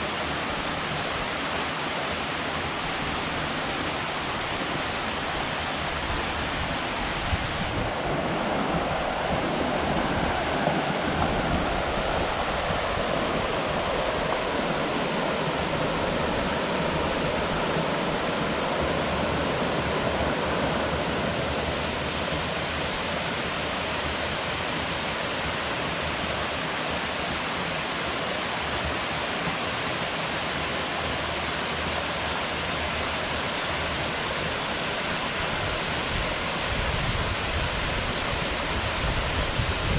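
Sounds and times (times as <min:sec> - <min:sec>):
water falling from a dam: 0:00.0 - 0:19.9, 0:20.8 - 0:39.9
river running: 0:00.0 - 0:39.9.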